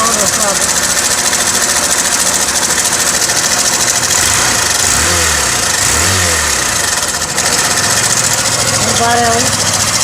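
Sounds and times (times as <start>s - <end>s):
engine idling with clatter: 0.0s - 10.0s.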